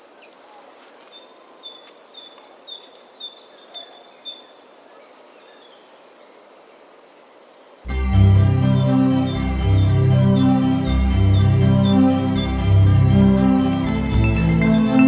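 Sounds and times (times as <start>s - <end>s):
soft outdoor ambience: 0.0s - 15.0s.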